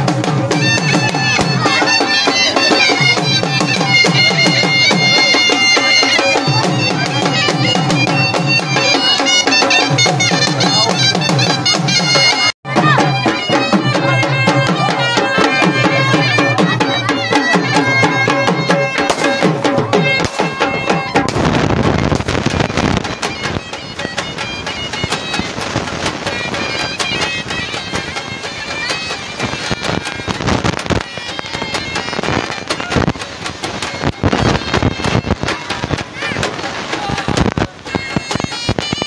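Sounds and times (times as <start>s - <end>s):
droning reed wind instrument: 0.0s - 39.0s
drum beating fast rhythm: 0.0s - 39.0s.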